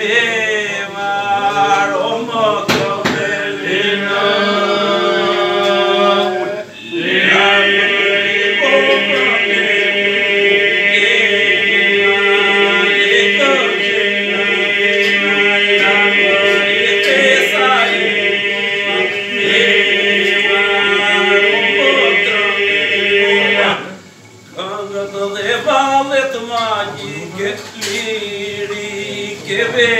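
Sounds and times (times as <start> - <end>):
men singing unaccompanied folk song: 0.0 - 29.9.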